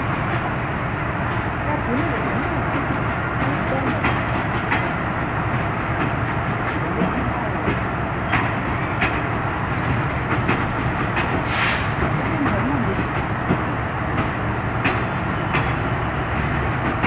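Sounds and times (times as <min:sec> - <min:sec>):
train rail rumble: 0:00.0 - 0:17.0
wheels clicking over rail joints: 0:01.3 - 0:11.4, 0:12.0 - 0:17.0.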